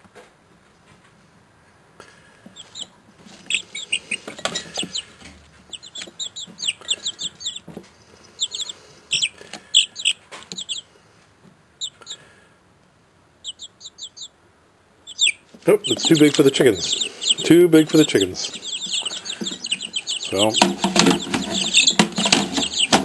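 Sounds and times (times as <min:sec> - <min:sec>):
chicks pecking in wood shavings: 0:02.0 - 0:12.4, 0:13.4 - 0:14.3, 0:15.1 - 0:23.0
chicks peeping: 0:02.1 - 0:11.0, 0:11.7 - 0:12.4, 0:13.4 - 0:14.4, 0:15.0 - 0:23.0.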